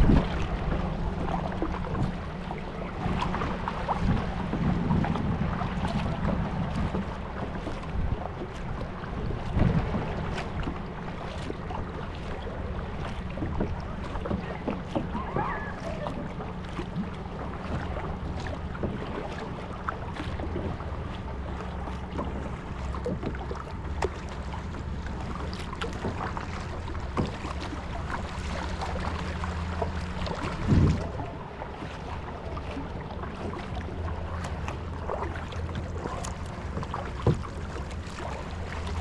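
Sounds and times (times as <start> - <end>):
paddle splashes and drips: 0.0 - 39.0
wind rumble on microphone: 0.0 - 39.0.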